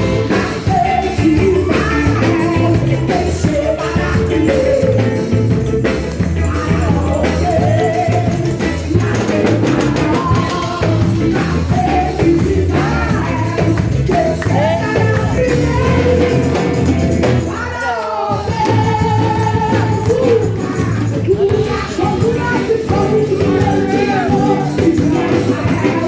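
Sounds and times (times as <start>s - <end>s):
backing track with bass: 0.0s - 26.0s
gospel singing: 0.0s - 26.0s
pandeiro rhythm: 0.0s - 26.0s.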